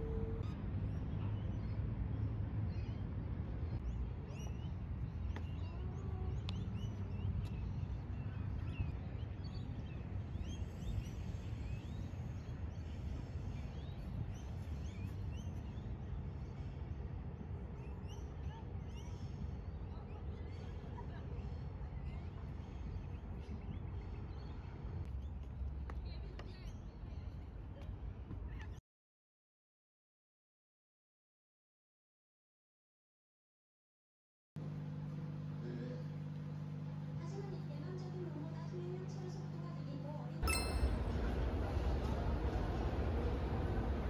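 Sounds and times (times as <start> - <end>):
birds chirping: 0.0 - 27.9, 35.6 - 44.0
steady low rumble: 0.0 - 28.6, 35.6 - 44.0.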